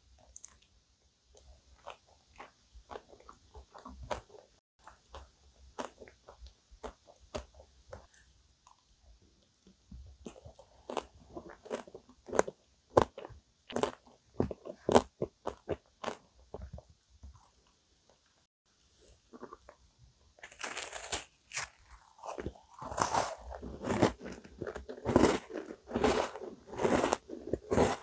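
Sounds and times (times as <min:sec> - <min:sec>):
chewing crunchy ice cream cake: 0:01.3 - 0:08.9, 0:10.2 - 0:16.8, 0:19.1 - 0:19.8, 0:20.4 - 0:28.0.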